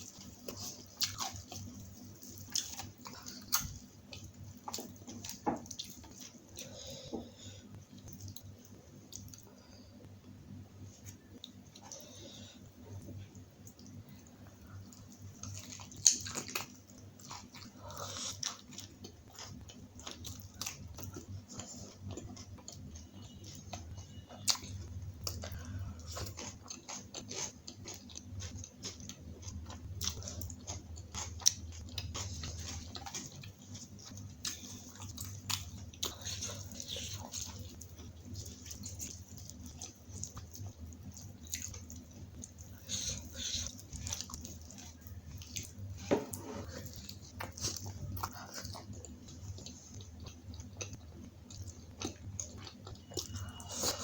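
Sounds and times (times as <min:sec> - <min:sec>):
low steady hum: 0:00.0 - 0:54.0
person chewing food: 0:00.0 - 0:54.0.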